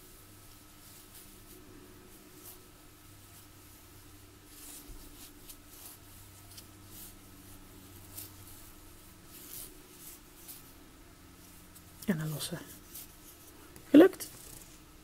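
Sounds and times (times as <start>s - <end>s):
low steady hum: 0.0s - 15.0s
yarn rustling on crochet hook: 0.0s - 15.0s.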